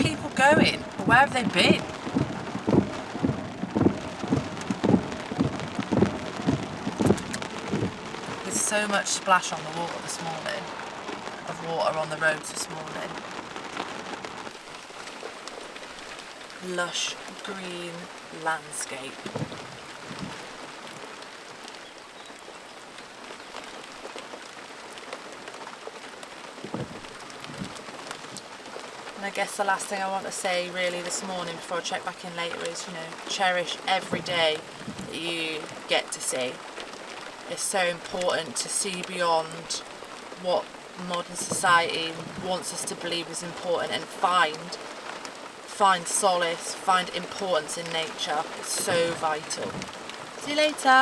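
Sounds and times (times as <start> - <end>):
large raindrops landing: 0.0 - 51.0
rain hiss: 0.0 - 51.0.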